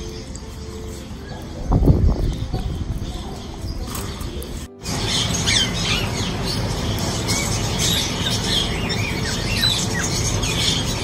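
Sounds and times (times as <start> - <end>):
parakeets squawking and chirping: 0.0 - 11.0.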